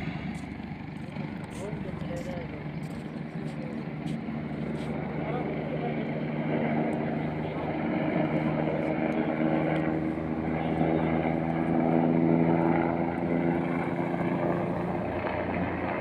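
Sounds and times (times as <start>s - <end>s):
steady engine drone: 0.0s - 16.0s.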